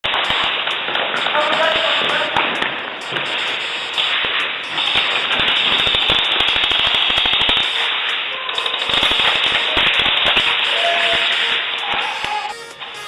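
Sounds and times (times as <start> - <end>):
airsoft guns firing: 0.1 - 3.4, 4.0 - 12.4.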